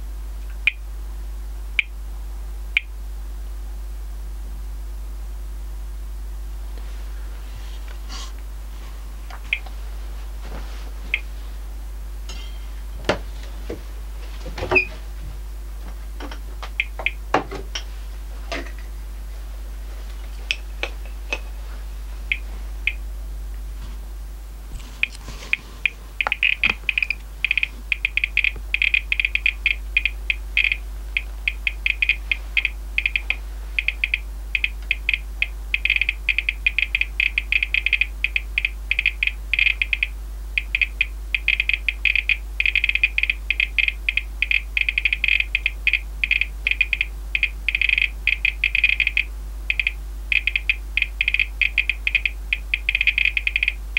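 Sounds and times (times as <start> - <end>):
radiation meter chirping: 0.0 - 1.0, 1.7 - 2.0, 2.7 - 3.0, 6.0 - 53.9.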